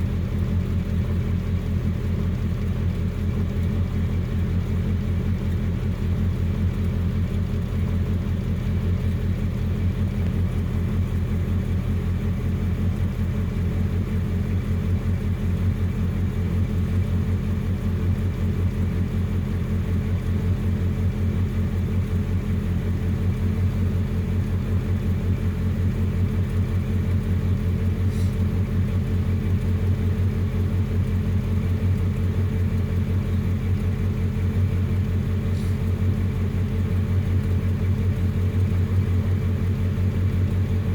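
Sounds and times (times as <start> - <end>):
pickup engine idling: 0.0 - 40.9.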